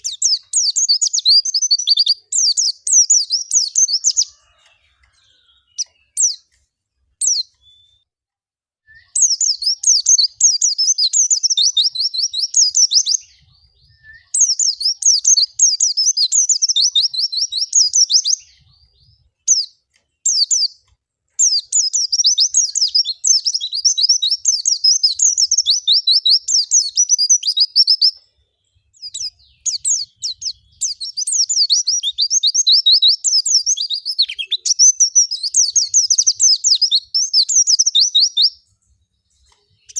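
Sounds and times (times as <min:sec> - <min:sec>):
single bird chirps: 0:00.0 - 0:06.6, 0:07.2 - 0:08.1, 0:08.9 - 0:39.9
bird twittering song: 0:00.0 - 0:08.1, 0:08.9 - 0:39.9.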